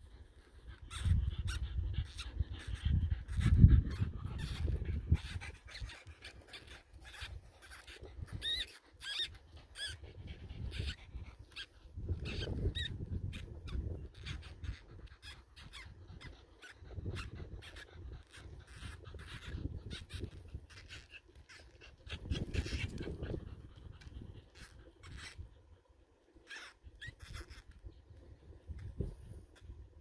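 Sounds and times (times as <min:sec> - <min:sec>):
wind rumble on microphone: 0:00.0 - 0:08.6, 0:09.3 - 0:25.7, 0:27.0 - 0:30.0
baby weasels squeaking: 0:00.9 - 0:25.4.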